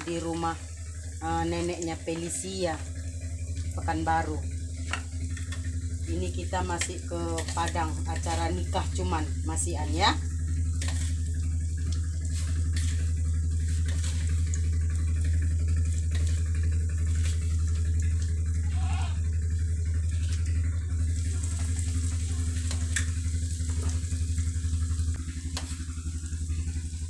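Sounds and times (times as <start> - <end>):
low buzzing hum: 0.0 - 27.0.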